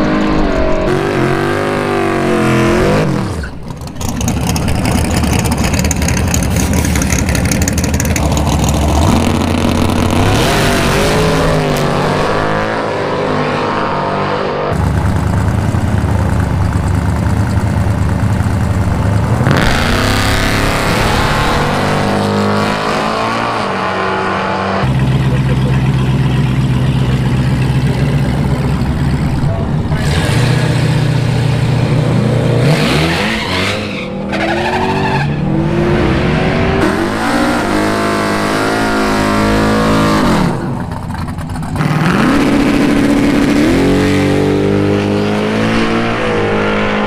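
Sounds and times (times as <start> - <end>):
drag racing engines revving: 0.0 - 47.0.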